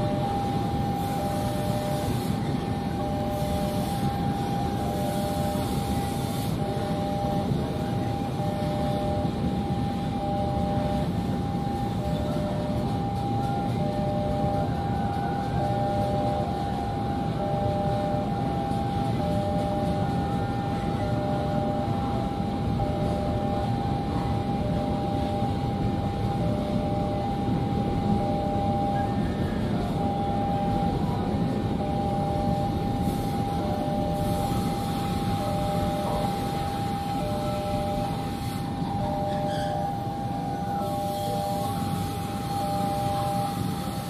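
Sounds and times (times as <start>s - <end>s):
level crossing alarm tones: 0.0s - 44.0s.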